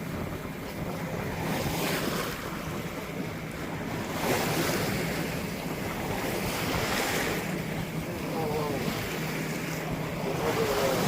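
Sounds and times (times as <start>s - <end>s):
water rushing against hull: 0.0s - 11.0s
wind buffeting microphone: 0.0s - 11.0s.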